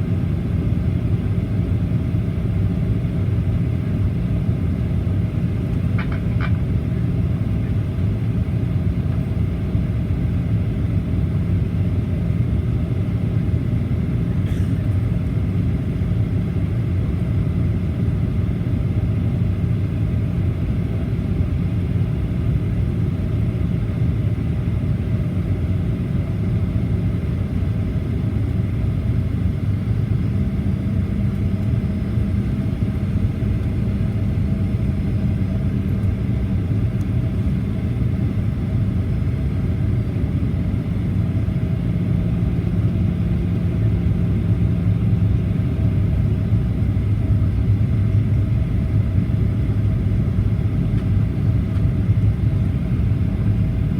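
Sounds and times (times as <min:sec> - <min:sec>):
airplane engines rumbling in cabin: 0:00.0 - 0:53.9.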